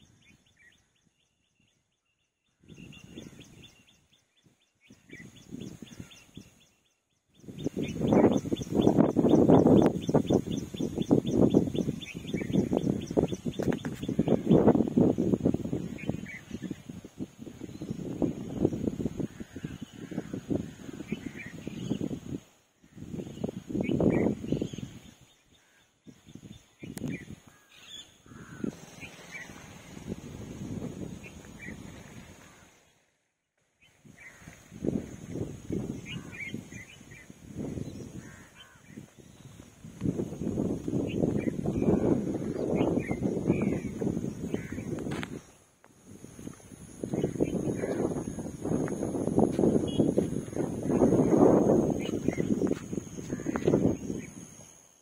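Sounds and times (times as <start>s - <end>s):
birds chirping: 0.0s - 55.0s
wind buffeting microphone: 2.5s - 32.9s, 33.8s - 54.8s.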